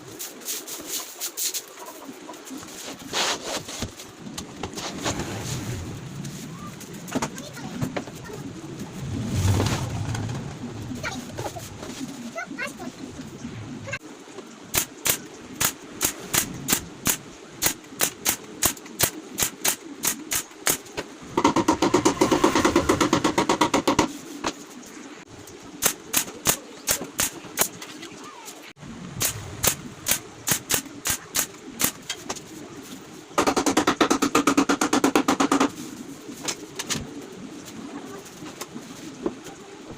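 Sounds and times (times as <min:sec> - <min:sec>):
dense continuous noise: 0:00.0 - 0:39.9.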